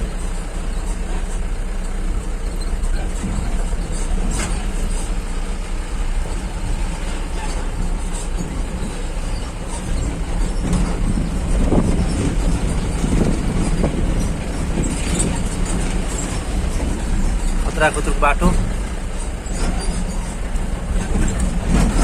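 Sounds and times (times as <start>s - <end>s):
vehicle engine and road rumble: 0.0s - 22.0s
vehicle jolts and knocks: 2.9s - 17.8s, 18.4s - 22.0s.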